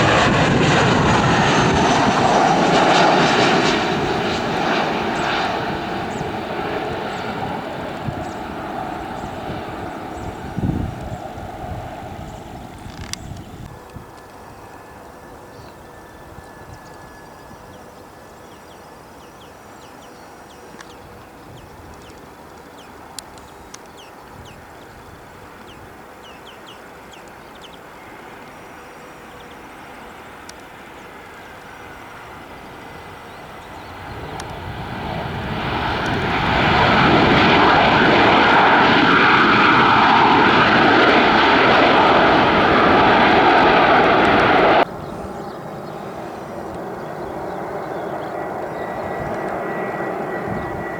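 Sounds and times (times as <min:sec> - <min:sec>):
airliner engines roaring: 0:00.0 - 0:50.9.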